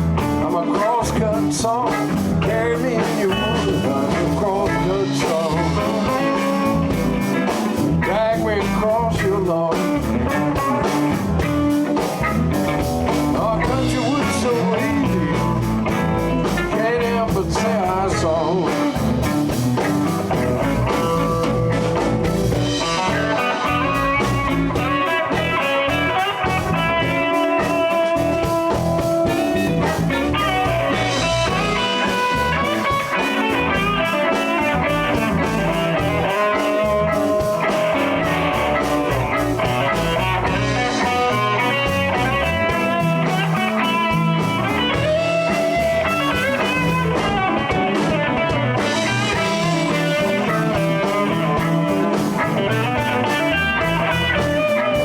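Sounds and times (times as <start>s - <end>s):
bass: 0.0s - 55.0s
drum kit: 0.0s - 55.0s
electric guitar lines: 0.0s - 55.0s.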